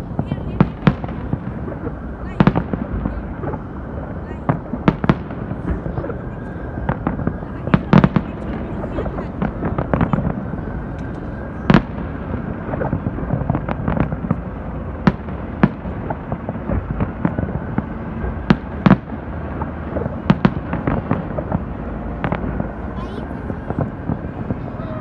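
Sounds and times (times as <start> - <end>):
fireworks bangs: 0.0 - 25.0
fireworks crackling pops: 0.0 - 25.0.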